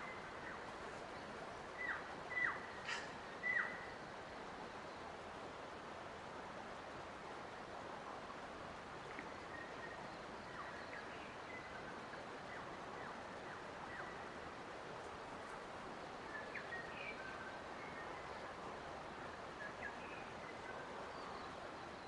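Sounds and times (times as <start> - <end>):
faint birds chirping: 0.0 - 6.1, 9.0 - 22.0.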